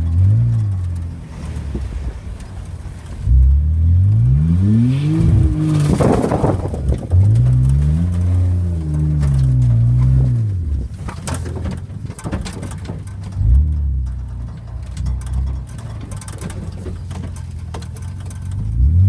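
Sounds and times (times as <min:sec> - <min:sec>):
car engine revving: 0:00.0 - 0:11.7, 0:13.2 - 0:19.0.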